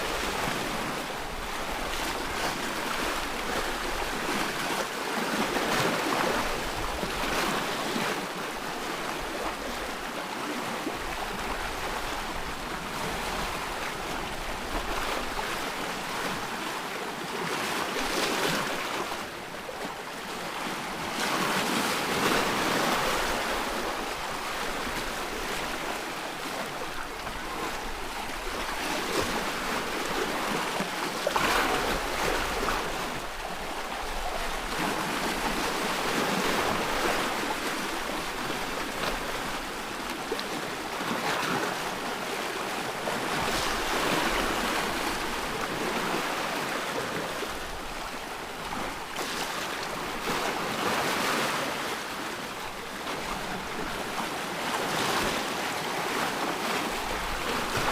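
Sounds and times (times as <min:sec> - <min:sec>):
waves breaking: 0:00.0 - 0:57.9.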